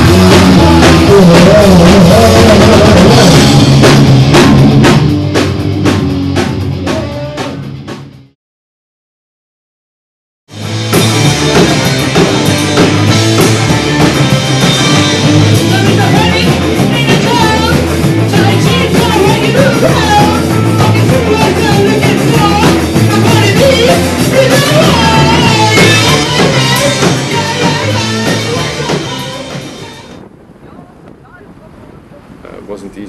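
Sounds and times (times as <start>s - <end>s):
punk rock band: 0.0s - 8.4s, 10.5s - 30.4s.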